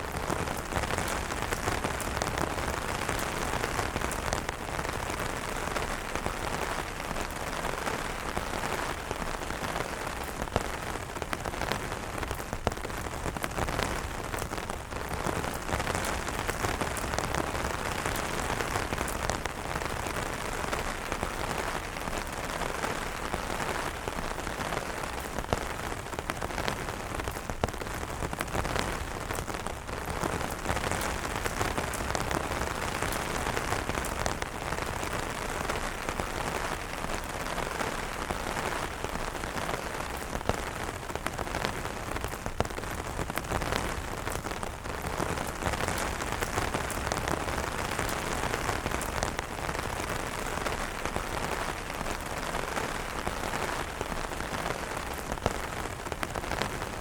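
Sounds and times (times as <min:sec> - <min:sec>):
rain falling on umbrellas: 0:00.0 - 0:57.0.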